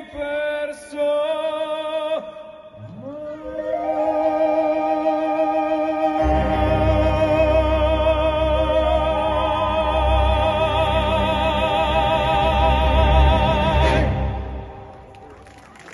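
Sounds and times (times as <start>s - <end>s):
operatic singing with vibrato: 0.0s - 15.1s.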